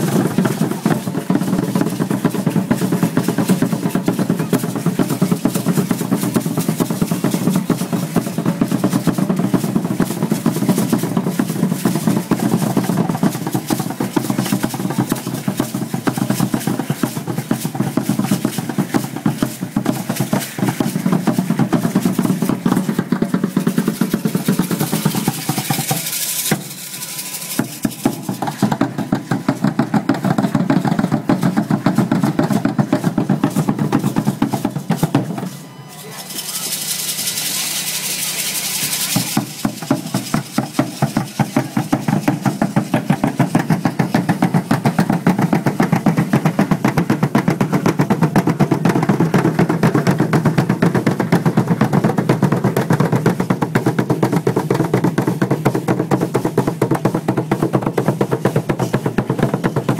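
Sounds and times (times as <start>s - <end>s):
upright drums fast beat: 0.0s - 59.9s.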